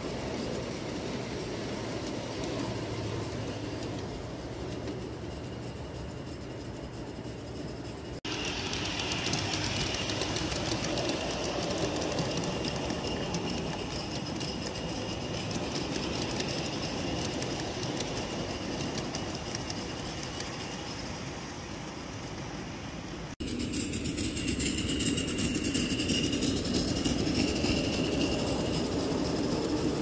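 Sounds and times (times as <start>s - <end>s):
model train wheels clicking on rails: 0.0s - 30.0s.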